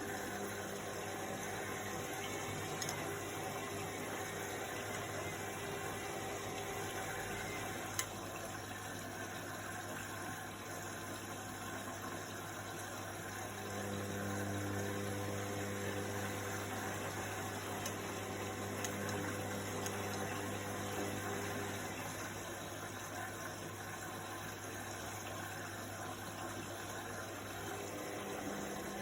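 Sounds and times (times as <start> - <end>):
washing machine motor hum: 0.0 - 29.0
water noise: 0.0 - 29.0.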